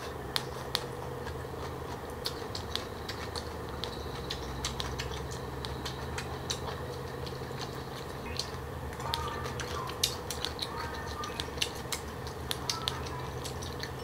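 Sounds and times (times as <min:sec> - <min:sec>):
crunchy chewing: 0:00.0 - 0:14.0
low background hum: 0:00.0 - 0:14.0.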